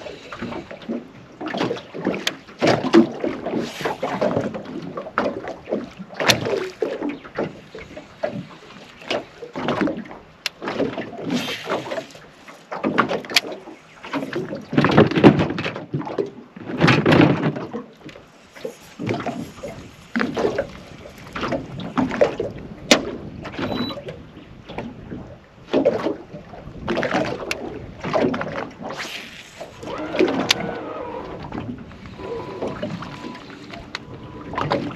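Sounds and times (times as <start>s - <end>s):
water sloshing against boat hull: 0.0s - 34.9s.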